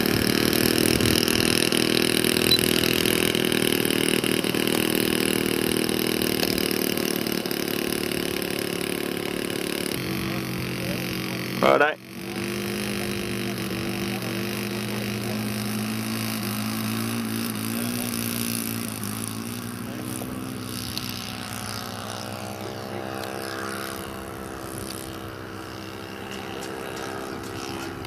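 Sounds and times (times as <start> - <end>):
model aircraft engine running: 0.0 - 28.0.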